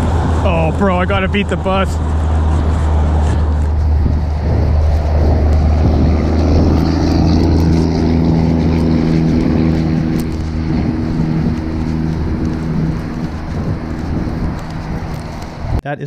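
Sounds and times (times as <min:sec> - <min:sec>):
vehicle engine droning: 0:00.0 - 0:15.8
wind rushing over microphone: 0:00.0 - 0:15.8.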